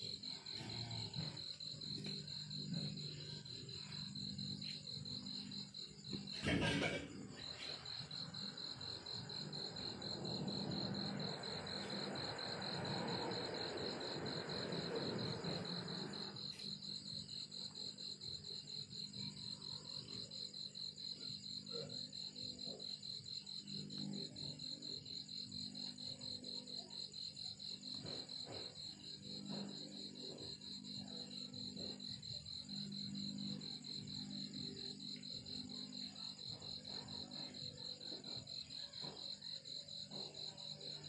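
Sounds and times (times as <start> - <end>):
cricket chirping: 0.0 - 41.0.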